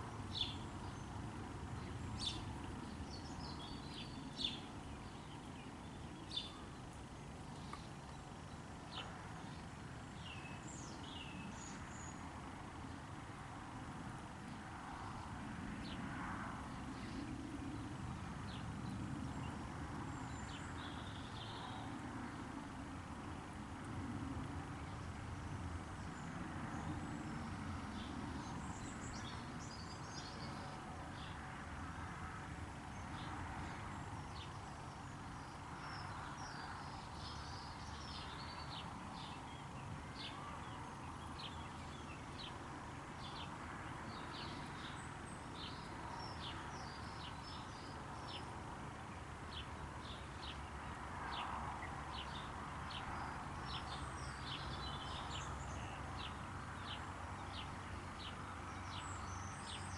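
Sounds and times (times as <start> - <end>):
small birds chirping: 0.0 - 13.0, 16.7 - 22.6, 24.8 - 31.6, 32.6 - 59.9
background hiss and rumble: 0.0 - 59.9.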